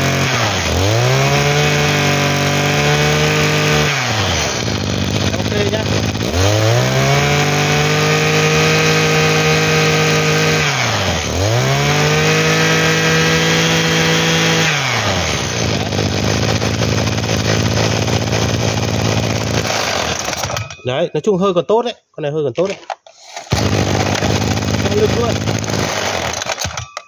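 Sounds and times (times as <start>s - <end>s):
brush cutter engine revving: 0.0s - 20.7s, 23.5s - 27.0s.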